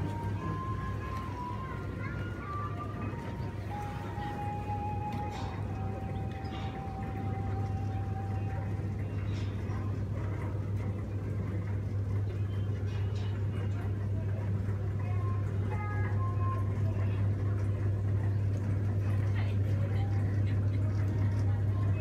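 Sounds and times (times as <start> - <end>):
ferris wheel machinery humming: 0.0 - 22.0.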